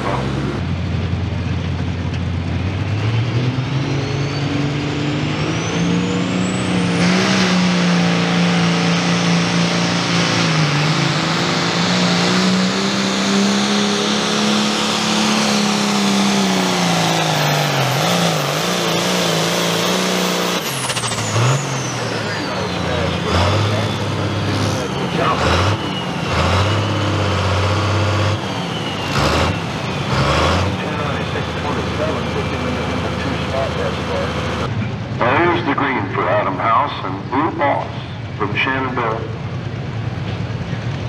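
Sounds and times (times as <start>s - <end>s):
diesel tractor engine at full throttle: 0.0s - 41.0s
turbocharger whine: 0.0s - 41.0s.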